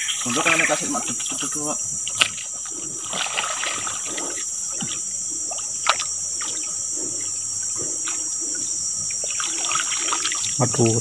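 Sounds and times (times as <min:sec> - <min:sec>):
high insect drone: 0:00.0 - 0:11.0
water sloshing and trickling: 0:00.0 - 0:11.0.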